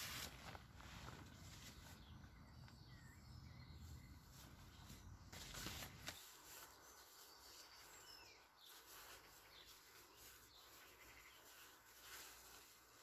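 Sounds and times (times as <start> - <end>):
rustle of handling: 0.0 - 2.2, 4.2 - 13.0
faint bird chirps: 0.4 - 13.0.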